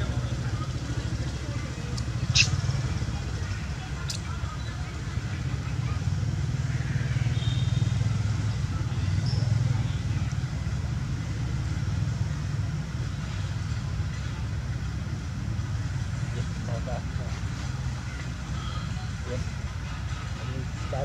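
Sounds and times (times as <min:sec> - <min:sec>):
engine rumbling: 0:00.0 - 0:21.0.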